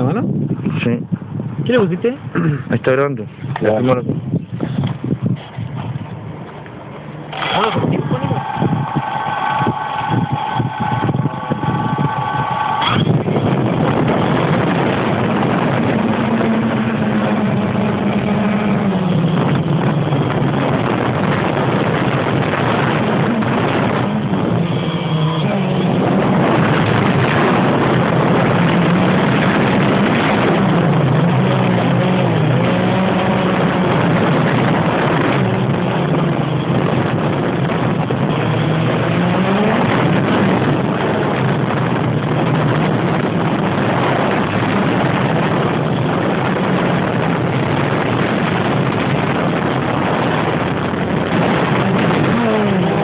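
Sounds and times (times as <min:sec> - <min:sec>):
drone propellers buzzing: 0:04.2 - 0:53.0.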